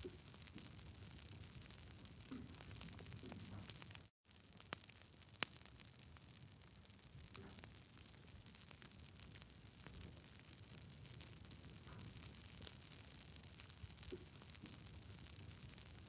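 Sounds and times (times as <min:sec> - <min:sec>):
burning wood crackling: 0:00.0 - 0:16.0.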